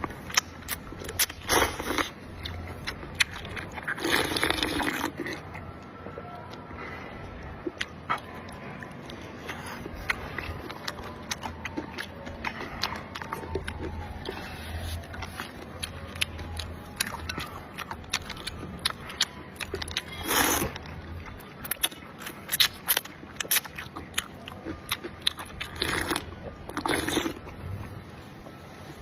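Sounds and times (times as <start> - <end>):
person biting and chewing food: 0.0 - 5.8, 7.6 - 27.5.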